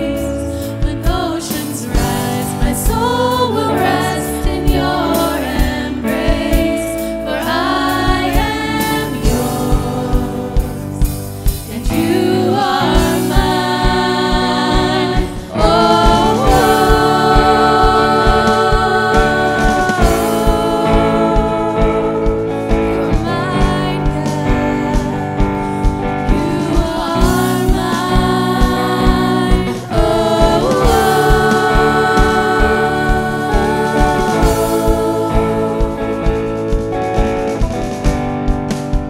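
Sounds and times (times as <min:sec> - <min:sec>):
voices singing held notes: 0:00.0 - 0:25.2, 0:26.1 - 0:36.8
church band playing: 0:00.0 - 0:39.0
steady drum beat: 0:00.0 - 0:39.0.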